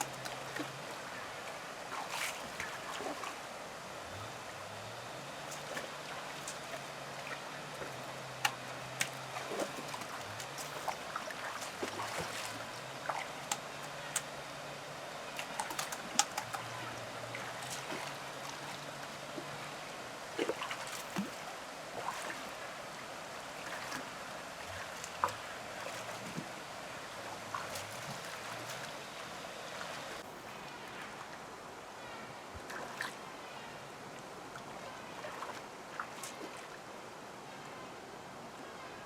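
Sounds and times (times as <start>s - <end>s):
water splashing and trickling: 0.0s - 37.8s.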